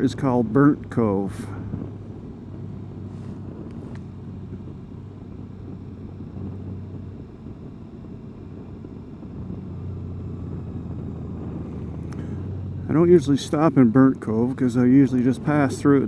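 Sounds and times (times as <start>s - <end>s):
motorcycle engine droning: 0.0s - 16.0s
road and wind noise: 0.0s - 16.0s.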